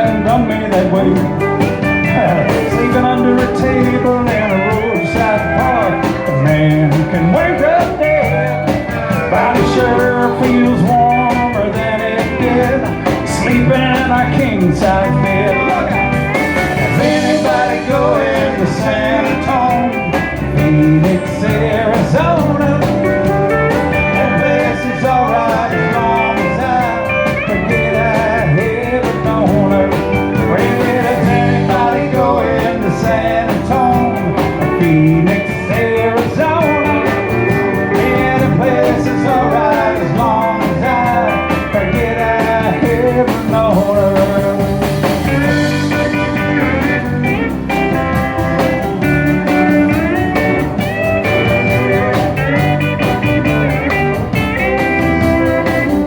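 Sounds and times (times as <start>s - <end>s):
guitar: 0.0s - 56.0s
live country band playing: 0.0s - 56.0s
steady drum beat: 0.0s - 56.0s.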